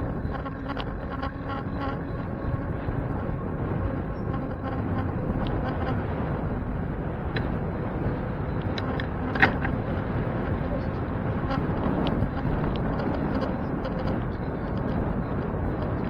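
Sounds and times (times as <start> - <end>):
traffic noise: 0.0 - 16.0
vehicle hum: 0.0 - 16.0
wind rumble: 0.0 - 16.0.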